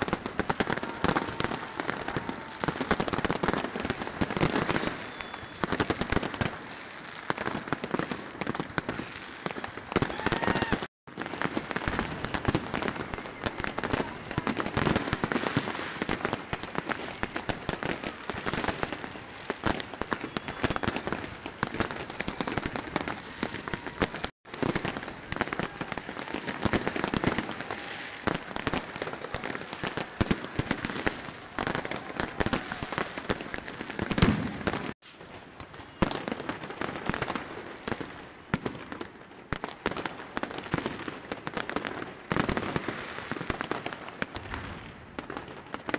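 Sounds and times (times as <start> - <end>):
fireworks cracking and banging: 0.0 - 45.9.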